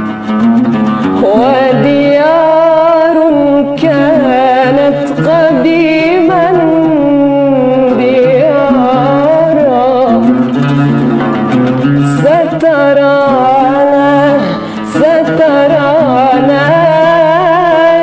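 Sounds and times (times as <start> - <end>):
oud playing: 0.0 - 18.0
woman singing: 1.0 - 11.3, 11.9 - 18.0.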